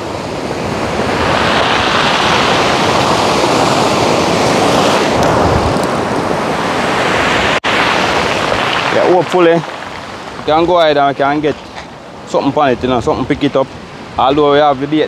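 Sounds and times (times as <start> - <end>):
strong wind: 0.0 - 15.0
surf rushing: 0.0 - 15.0.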